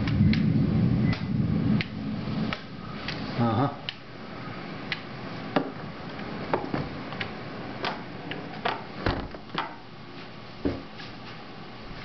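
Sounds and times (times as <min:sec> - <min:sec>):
rain hissing: 0:00.0 - 0:10.5.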